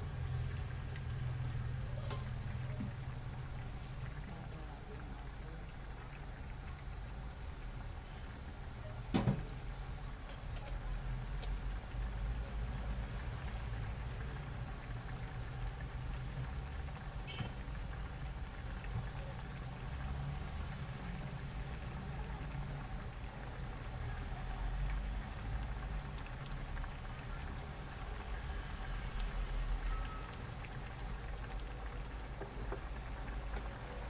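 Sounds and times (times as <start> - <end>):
water boiling in a pan: 0.0 - 34.0.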